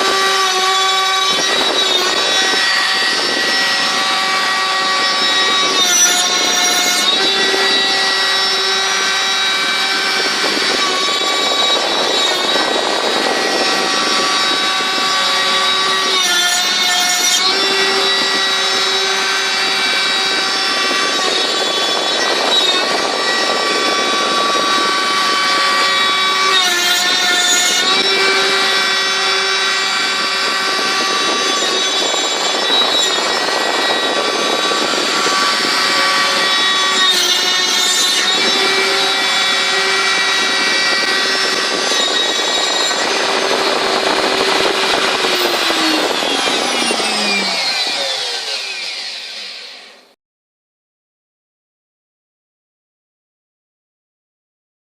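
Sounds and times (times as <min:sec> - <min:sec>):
rasping wood cutting noise: 0:00.0 - 0:50.2
router spindle whining: 0:00.0 - 0:50.2.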